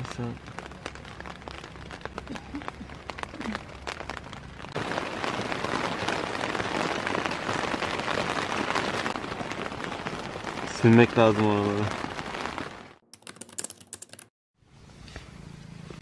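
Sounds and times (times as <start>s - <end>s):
heavy rain hissing: 0.0s - 12.9s
scattered raindrop impacts: 0.0s - 14.3s.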